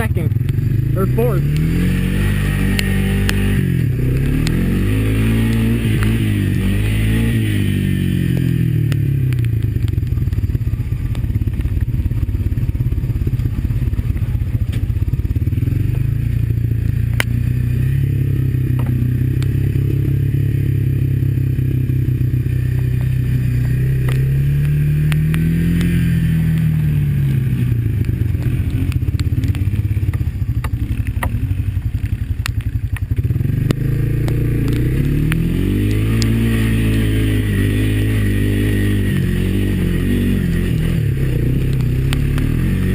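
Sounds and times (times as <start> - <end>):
quad bike engine revving: 0.0 - 42.9.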